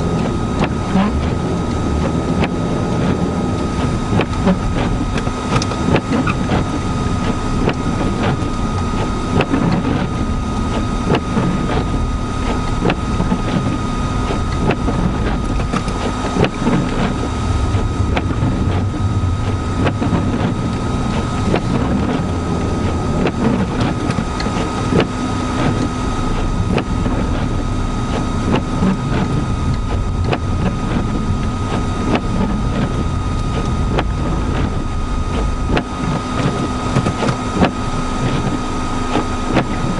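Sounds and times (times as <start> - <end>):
wind noise: 0.0 - 38.5
engine and tyre rumble: 0.0 - 39.9
thin steady whine: 0.0 - 39.9.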